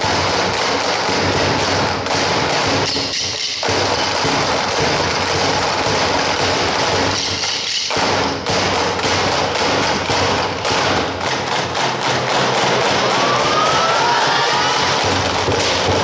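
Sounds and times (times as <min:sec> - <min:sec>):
drumsticks on plastic chairs: 0:00.0 - 0:16.0.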